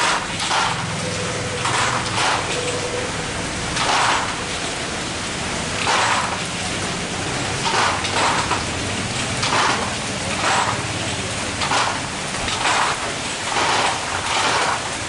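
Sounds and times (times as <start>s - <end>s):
rain on a metal roof: 0.0s - 15.0s.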